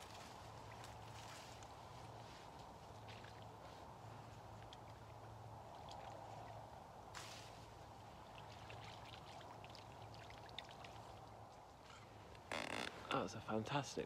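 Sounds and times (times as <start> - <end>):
water sloshing and trickling: 0.0 - 13.1.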